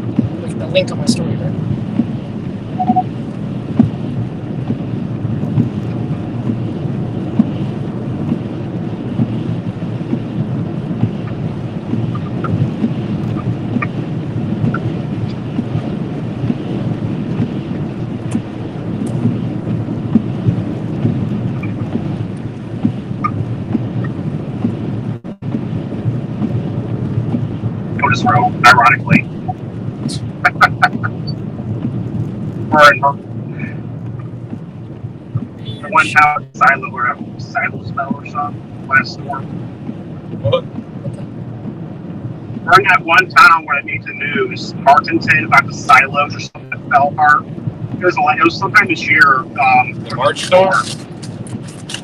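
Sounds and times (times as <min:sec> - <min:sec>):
road and wind noise inside car: 0:00.0 - 0:52.0.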